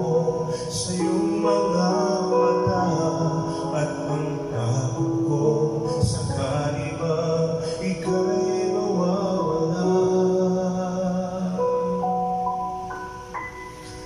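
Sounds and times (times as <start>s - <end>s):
man singing into microphone: 0.0s - 12.4s
backing music: 0.0s - 14.0s.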